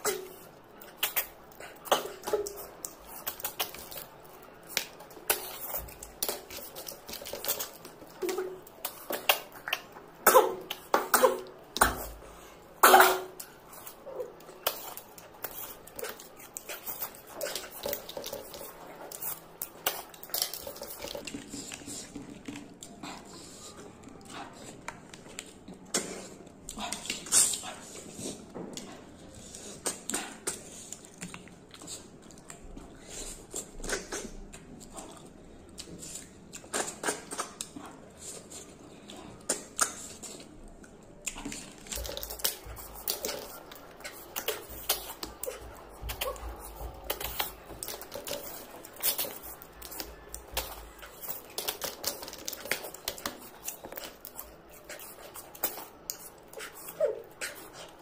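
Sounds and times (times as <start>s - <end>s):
chewing clicks and wet smacks: 0.0s - 58.0s.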